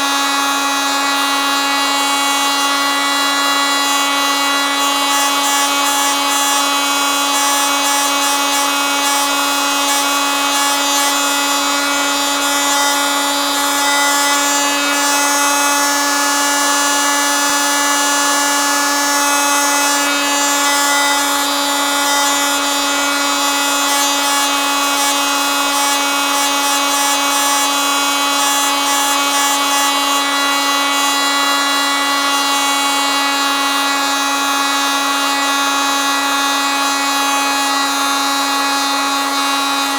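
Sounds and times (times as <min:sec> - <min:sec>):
oscillating multitool buzzing: 0:00.0 - 0:39.9.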